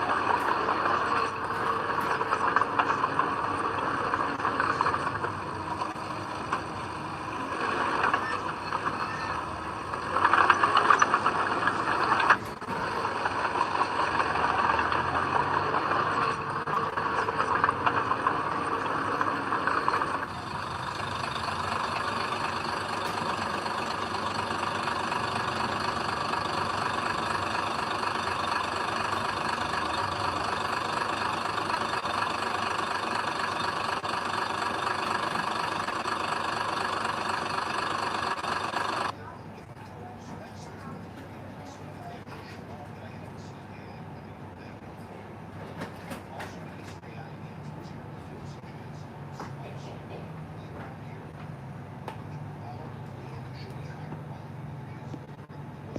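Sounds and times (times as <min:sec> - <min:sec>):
earthmoving machinery diesel engine: 0:00.0 - 0:55.9.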